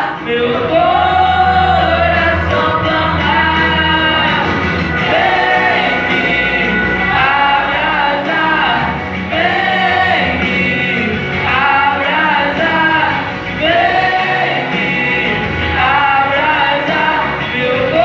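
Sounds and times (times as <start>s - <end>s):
vocal group singing gospel: 0.0s - 18.0s.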